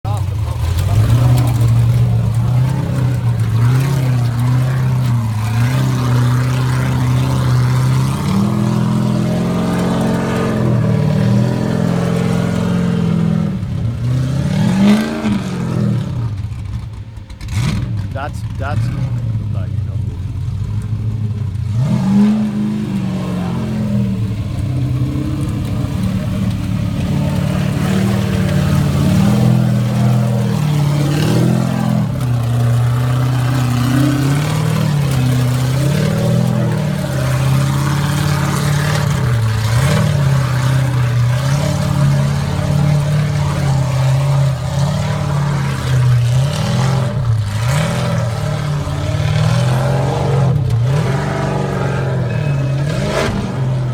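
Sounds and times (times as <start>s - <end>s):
racing car engine revving: 0.0s - 53.9s.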